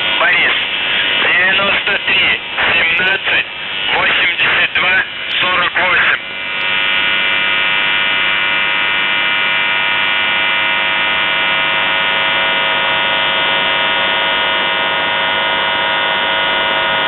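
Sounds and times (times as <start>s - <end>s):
radio static hiss: 0.0s - 17.0s
steady radio buzz: 0.0s - 17.0s.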